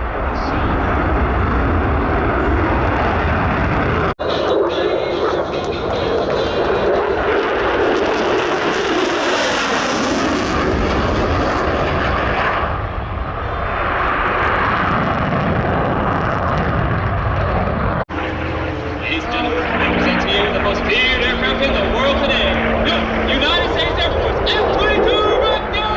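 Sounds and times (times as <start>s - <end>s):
jet flying by: 0.0s - 25.9s.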